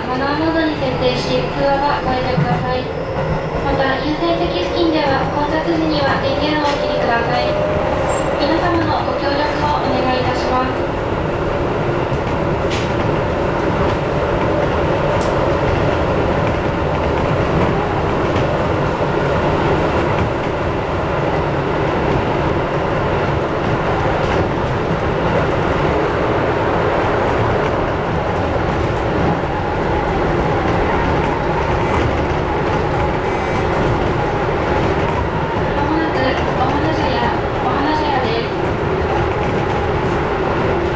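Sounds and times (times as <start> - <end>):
train wheels and motors rumbling: 0.0 - 40.9.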